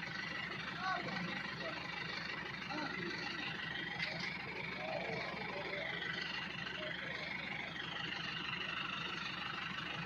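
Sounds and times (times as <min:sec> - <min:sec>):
heavy machinery engine running: 0:00.0 - 0:10.0.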